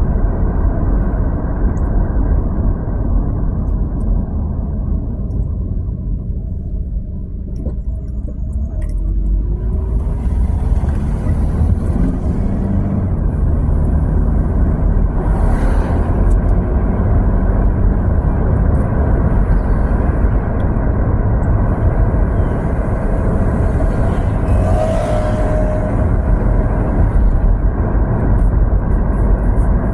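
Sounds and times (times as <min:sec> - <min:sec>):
car tyres and engine rumble: 0:00.0 - 0:29.9.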